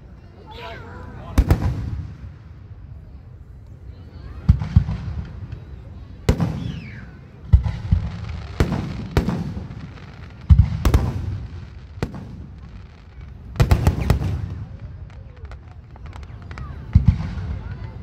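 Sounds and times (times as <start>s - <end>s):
fireworks booming: 1.3s - 3.0s, 4.3s - 18.0s.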